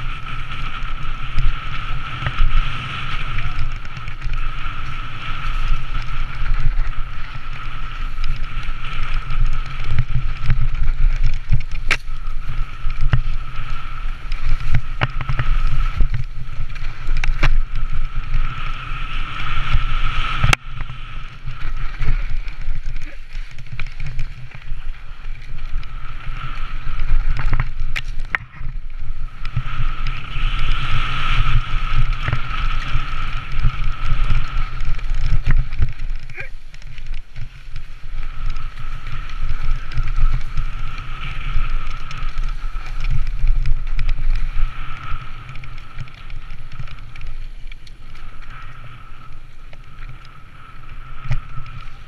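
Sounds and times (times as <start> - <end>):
bike tyre and frame rattle: 0.0 - 52.0
wind buffeting microphone: 0.0 - 52.0.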